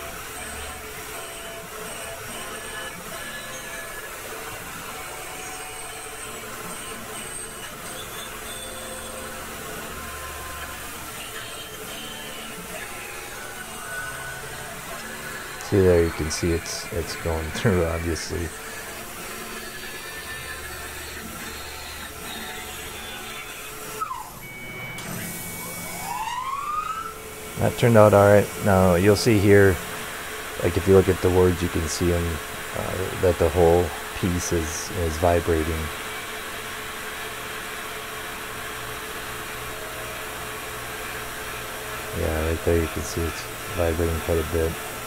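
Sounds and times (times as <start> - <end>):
milling machine cutting metal: 0.0 - 24.0, 27.1 - 45.0
spindle motor whine: 0.0 - 45.0.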